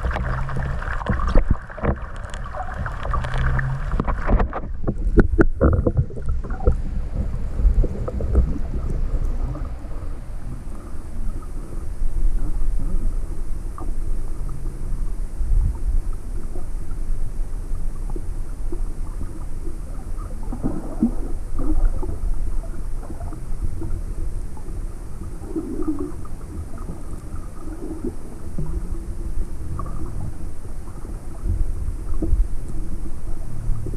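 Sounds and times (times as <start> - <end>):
underwater water rumble: 0.0 - 33.9.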